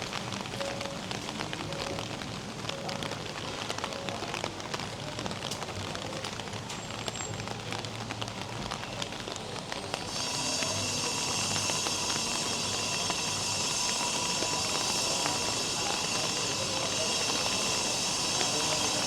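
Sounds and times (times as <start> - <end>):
raindrops ticking: 0.0 - 19.0
steady rain falling: 0.0 - 19.0.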